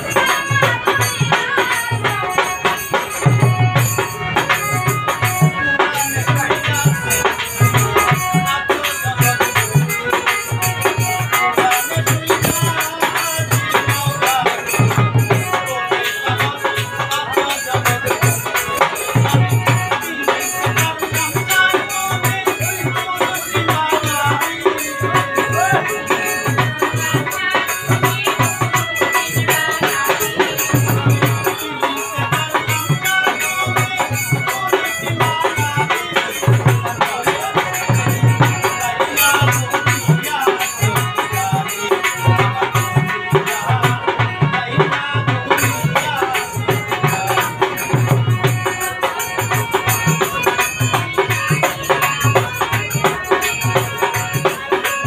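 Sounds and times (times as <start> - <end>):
dhol drum beating: 0.0 - 55.0
harmonium: 0.0 - 55.0
man singing: 0.0 - 55.0.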